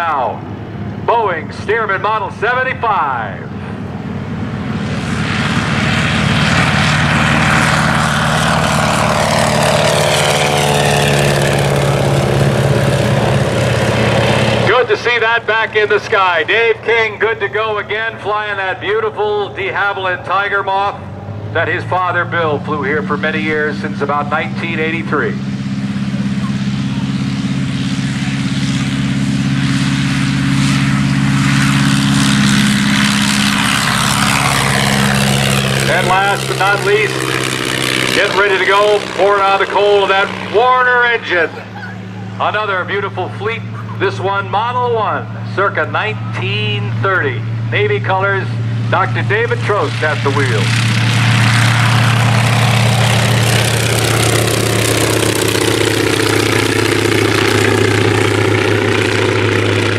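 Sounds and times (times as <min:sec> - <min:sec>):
biplane engine and propeller passing: 0:00.0 - 0:59.9.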